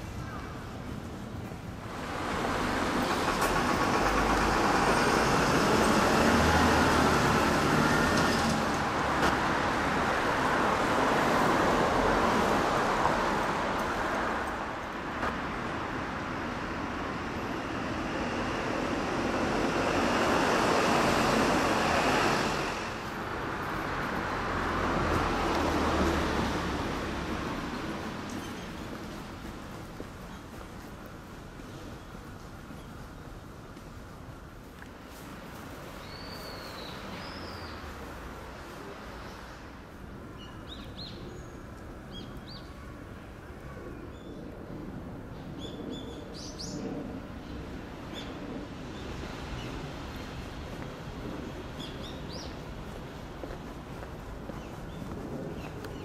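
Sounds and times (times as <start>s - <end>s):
cars and buses passing: 0.0s - 56.0s.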